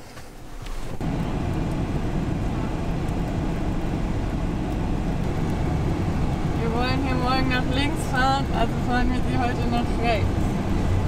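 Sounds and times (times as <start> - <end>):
road noise: 0.0 - 11.0
diesel engine: 0.3 - 11.0.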